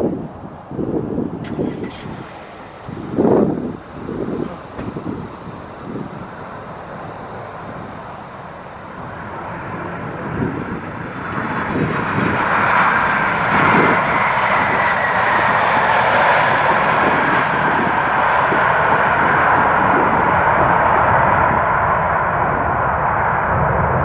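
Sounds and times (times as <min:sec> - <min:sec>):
jet engines passing close: 0:00.0 - 0:24.0
high jet whine dropping in pitch: 0:00.9 - 0:24.0.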